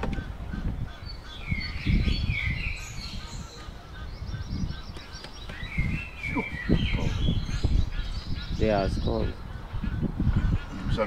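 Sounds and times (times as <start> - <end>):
birds chirping and honking: 0.0 - 11.0
wind gusts on microphone: 0.0 - 11.0.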